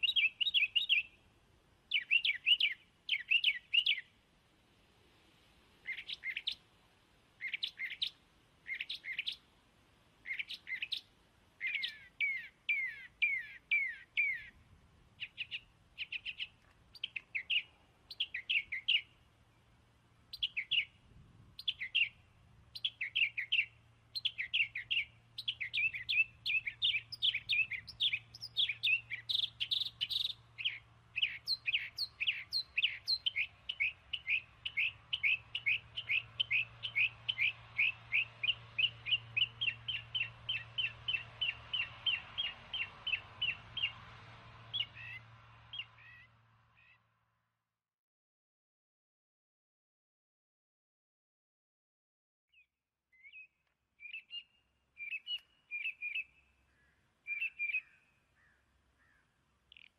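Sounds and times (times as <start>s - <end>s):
birds chirping: 0.0s - 4.2s, 5.8s - 6.7s, 7.3s - 9.5s, 10.2s - 47.0s, 52.6s - 59.9s.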